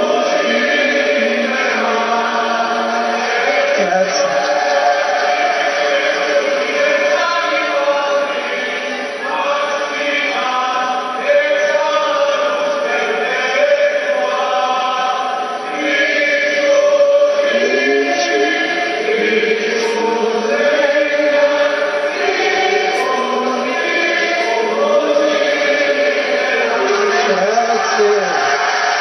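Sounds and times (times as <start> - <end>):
crowd singing in unison: 0.0 - 29.0.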